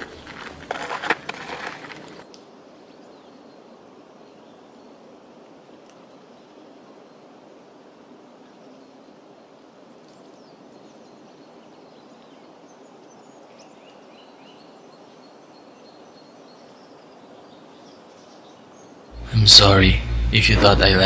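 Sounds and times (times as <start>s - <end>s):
low background hiss: 2.3s - 21.0s.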